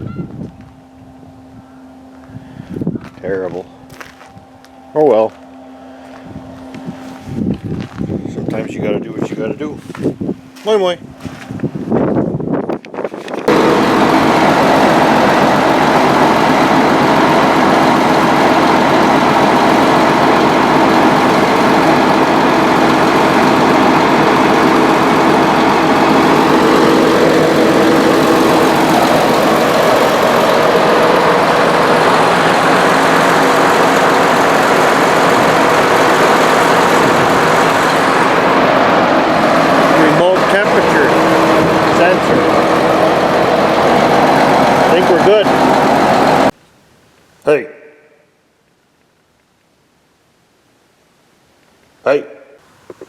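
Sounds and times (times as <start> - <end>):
engine running steadily: 0.0 - 46.6.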